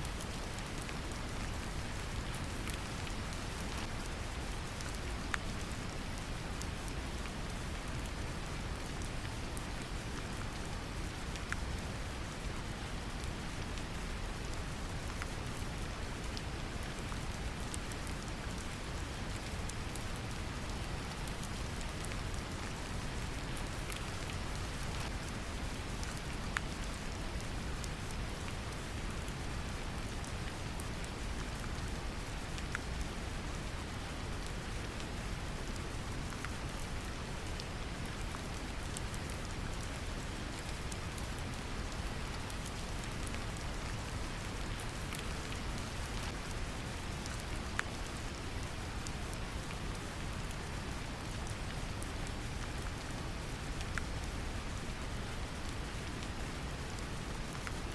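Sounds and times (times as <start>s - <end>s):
gentle rain patter: 0.0s - 57.9s.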